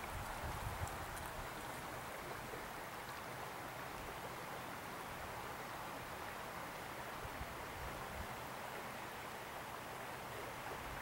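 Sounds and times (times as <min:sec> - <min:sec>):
faint stream current rushing: 0:00.0 - 0:11.0.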